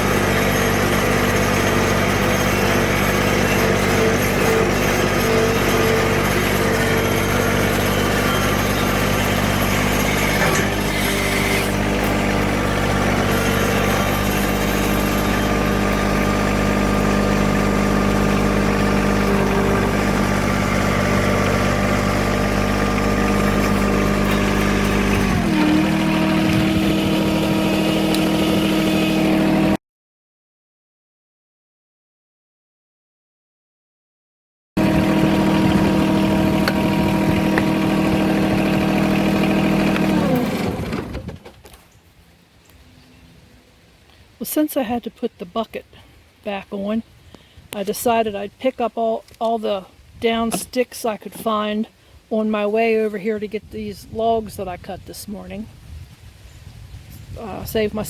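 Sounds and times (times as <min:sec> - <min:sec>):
tractor diesel engine running: 0:00.0 - 0:29.8, 0:34.8 - 0:41.9, 0:43.7 - 0:55.8, 0:57.2 - 0:58.0.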